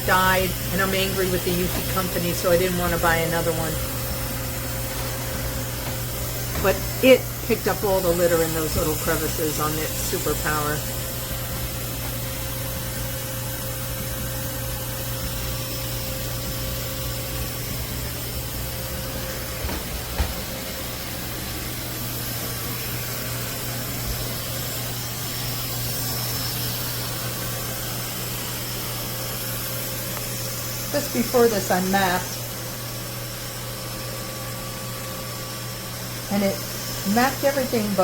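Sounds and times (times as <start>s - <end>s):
robot vacuum humming: 0.0s - 33.9s, 35.3s - 38.0s.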